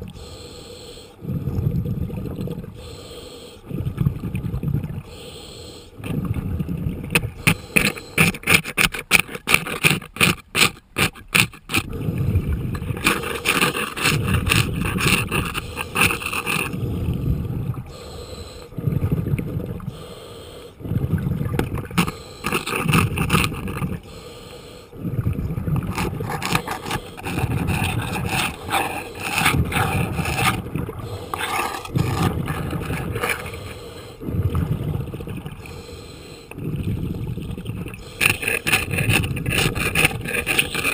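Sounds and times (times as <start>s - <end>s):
scraper scraping barnacles underwater: 1.1s - 40.9s.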